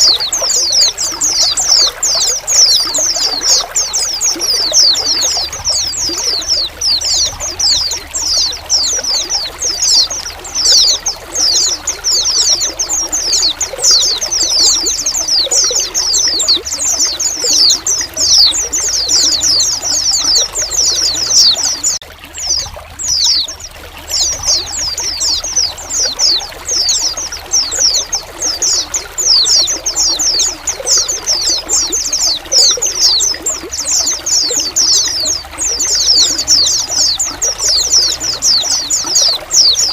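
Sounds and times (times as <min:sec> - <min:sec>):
flock of birds chattering: 0:00.0 - 0:39.9
trickling water: 0:00.0 - 0:39.9.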